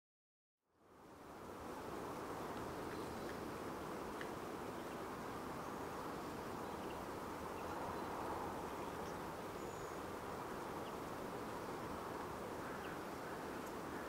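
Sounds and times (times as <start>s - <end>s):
windy hiss: 0.7s - 14.0s.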